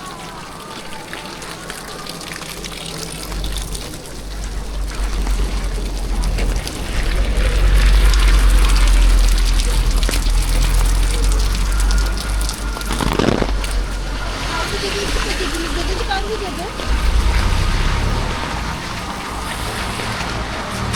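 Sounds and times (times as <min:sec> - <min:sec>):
rain falling: 0:00.0 - 0:20.9
deep rumble: 0:03.2 - 0:20.9.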